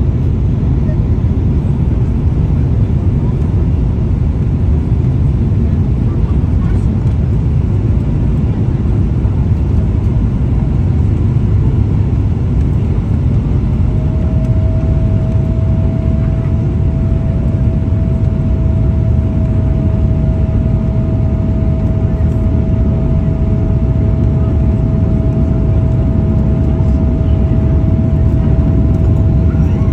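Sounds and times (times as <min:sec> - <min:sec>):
deep rumble of engines and airflow: 0:00.0 - 0:29.9
steady whine: 0:00.0 - 0:29.9.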